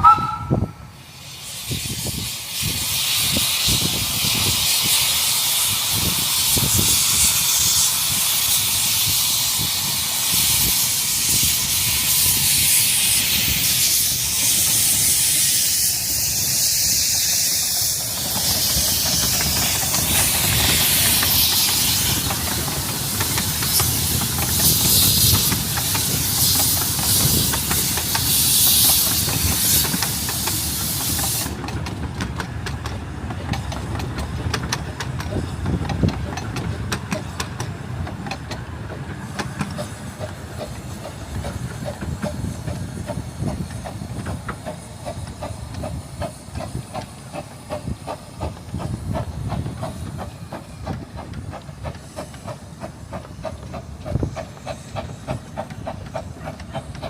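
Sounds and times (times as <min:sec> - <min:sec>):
steam locomotive hissing: 0:00.0 - 0:57.0
train rhythmic clatter: 0:00.0 - 0:57.0.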